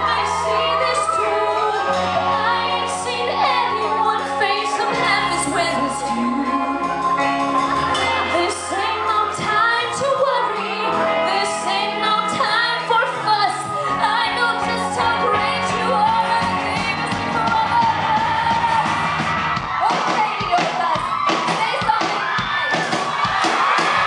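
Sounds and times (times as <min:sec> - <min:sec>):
woman singing lead: 0:00.0 - 0:22.9
live band playing pop song: 0:00.0 - 0:24.0.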